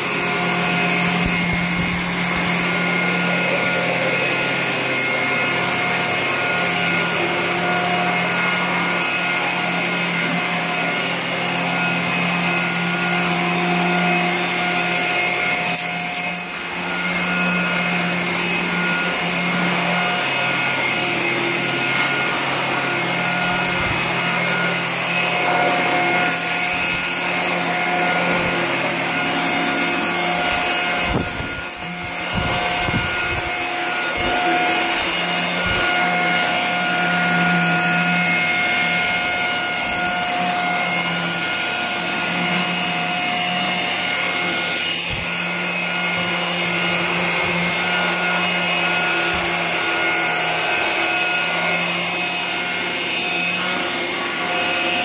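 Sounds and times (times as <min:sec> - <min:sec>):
vacuum cleaner motor whine: 0:00.0 - 0:55.0
vacuum nozzle on laminate floor: 0:00.0 - 0:55.0.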